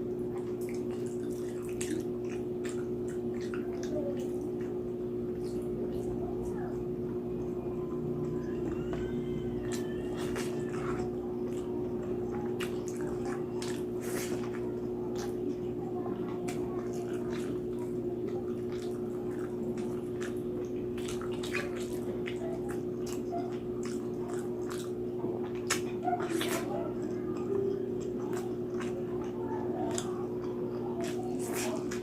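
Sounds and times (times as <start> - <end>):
chewing with wet mouth smacks: 0.0 - 32.0
steady low hum: 0.0 - 32.0.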